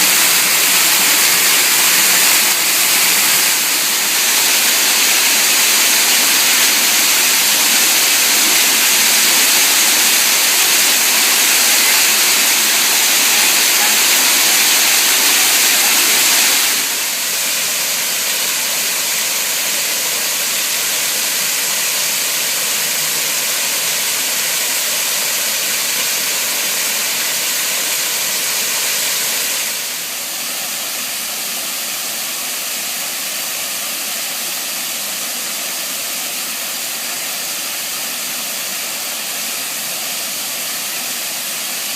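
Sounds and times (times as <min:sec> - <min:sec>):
garden waterfall rushing: 0:00.0 - 0:41.9.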